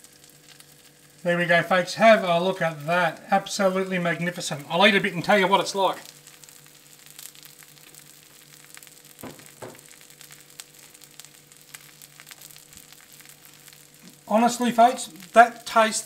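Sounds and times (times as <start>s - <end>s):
fish fillets sizzling in a pan: 0.0s - 16.0s.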